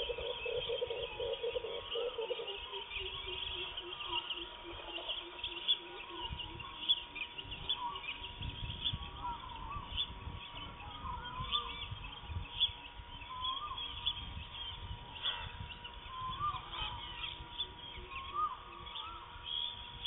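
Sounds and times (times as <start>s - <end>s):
birds chirping: 0.0s - 20.0s
whistled bird calls: 0.0s - 20.0s.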